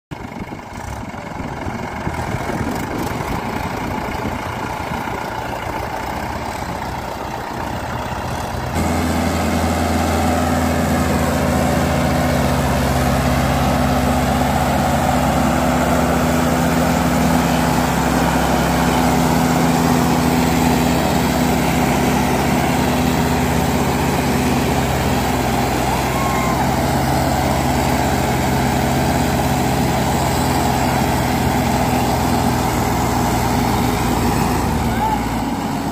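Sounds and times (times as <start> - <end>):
tractor engine under load: 0.1 - 35.9.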